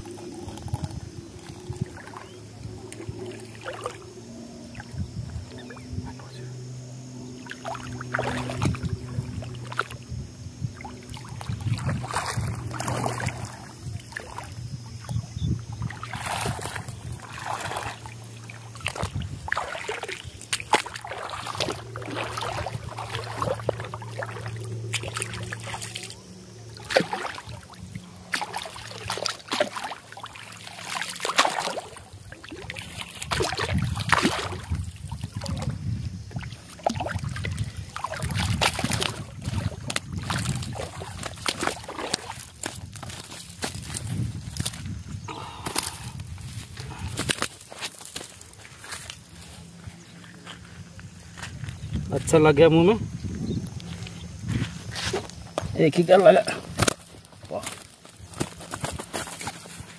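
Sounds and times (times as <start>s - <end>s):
splashing in shallow water: 0.0s - 5.8s, 7.2s - 49.7s
steady low hum: 0.0s - 59.9s.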